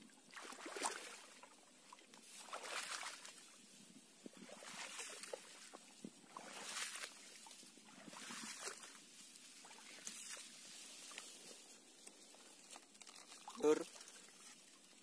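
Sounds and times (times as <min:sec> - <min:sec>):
rustling through marsh grass: 0:00.3 - 0:15.0.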